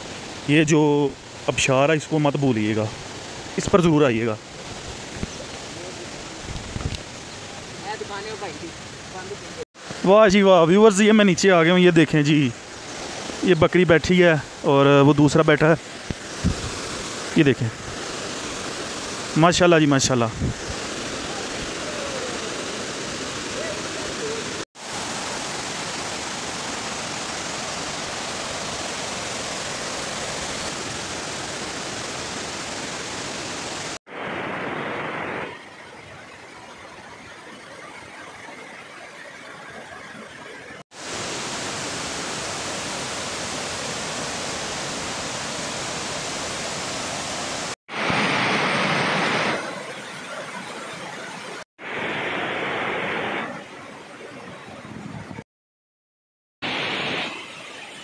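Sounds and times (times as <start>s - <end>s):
water rushing over rocks: 0.0s - 54.6s, 56.6s - 58.0s.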